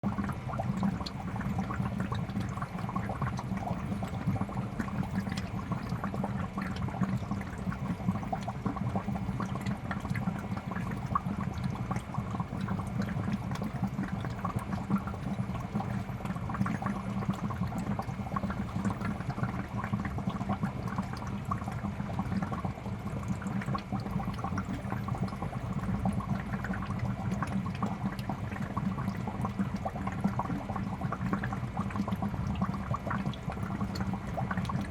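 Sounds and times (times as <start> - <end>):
aquarium pump humming: 0.0 - 34.9
aquarium water bubbling and splashing: 0.0 - 34.9.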